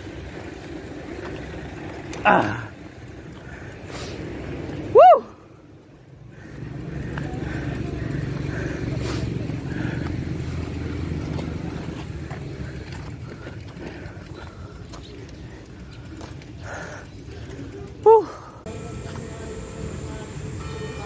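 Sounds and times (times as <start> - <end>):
vehicle engine rumble passing: 0.0 - 21.0.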